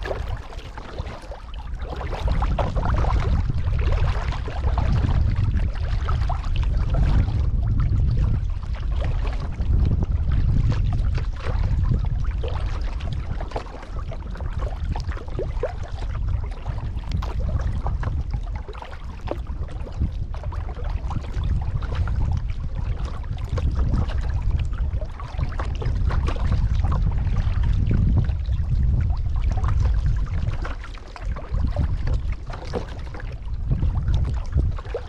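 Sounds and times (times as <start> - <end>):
kayak paddle dipping: 0.0 - 35.0
water splashing and trickling: 0.0 - 35.0
low rumble: 1.4 - 35.0.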